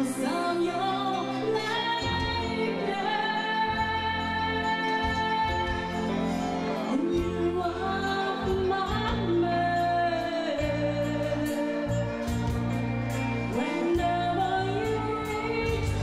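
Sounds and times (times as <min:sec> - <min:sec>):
bass: 0:00.0 - 0:16.0
keyboard: 0:00.0 - 0:16.0
woman singing: 0:00.0 - 0:16.0.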